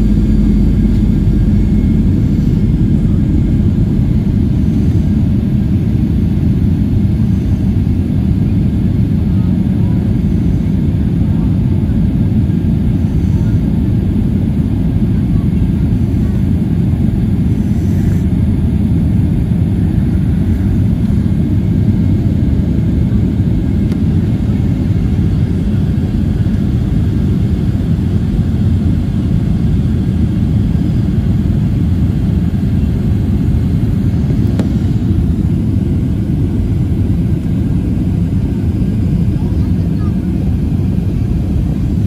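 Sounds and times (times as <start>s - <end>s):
jet engine cabin roar: 0.0s - 42.0s.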